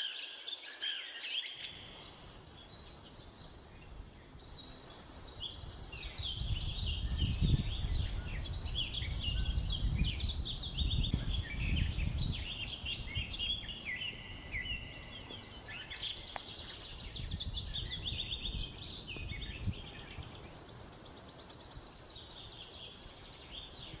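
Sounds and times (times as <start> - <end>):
birds chirping and singing: 0.0 - 24.0.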